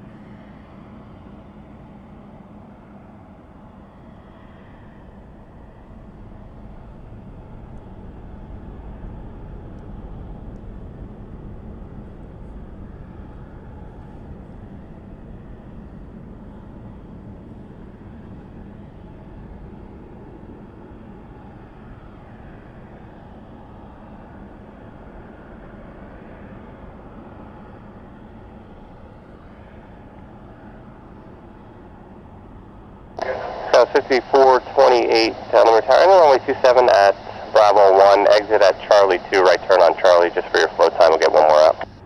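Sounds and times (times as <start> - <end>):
jet engines rumbling at takeoff: 0.0 - 42.0.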